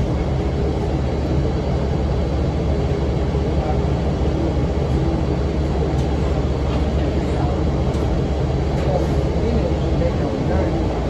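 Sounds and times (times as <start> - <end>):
bus diesel engine running: 0.0 - 11.0
engine cooling fan running: 0.0 - 11.0.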